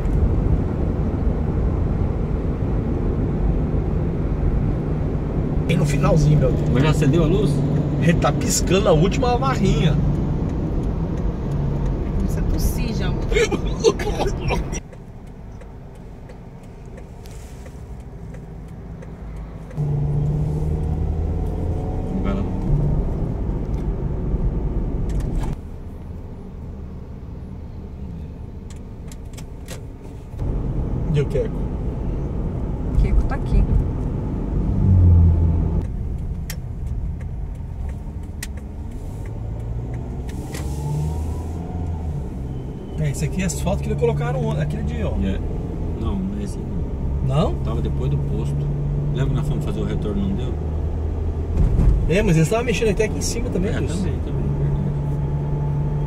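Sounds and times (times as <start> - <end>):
car engine hum: 0.0 - 56.0
road noise rumble: 0.0 - 56.0.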